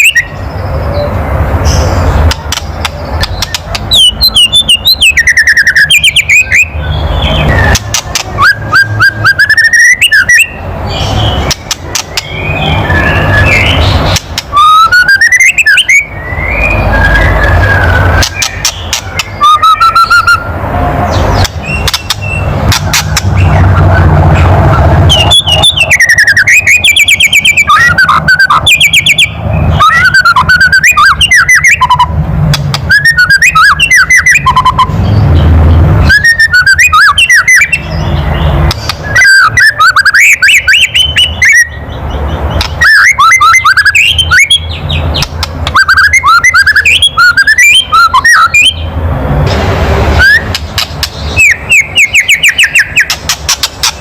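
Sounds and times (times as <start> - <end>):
bird whistled notes: 0.0 - 20.5, 25.1 - 32.1, 32.9 - 34.9, 36.0 - 41.9, 42.6 - 48.9, 50.2 - 54.0.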